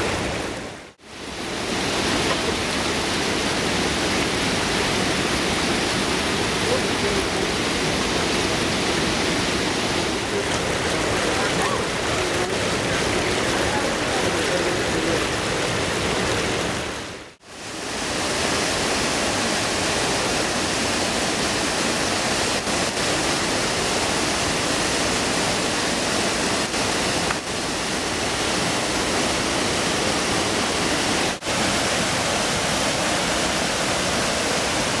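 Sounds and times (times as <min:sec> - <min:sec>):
water rushing through channel: 0:00.0 - 0:35.0.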